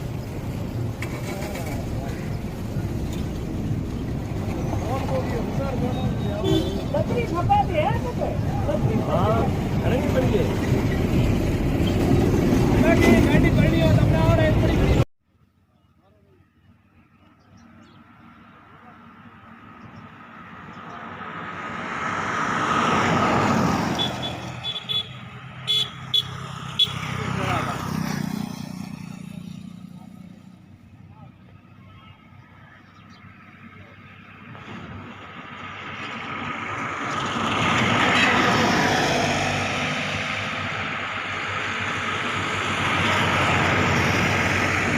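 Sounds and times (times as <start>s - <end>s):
motor vehicle passing: 0.0s - 15.0s, 18.8s - 31.6s, 32.6s - 44.9s.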